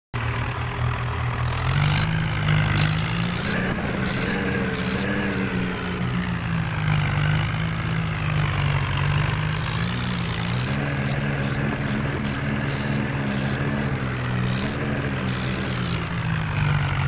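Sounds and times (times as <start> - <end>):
tractor diesel engine under load: 0.2 - 17.0.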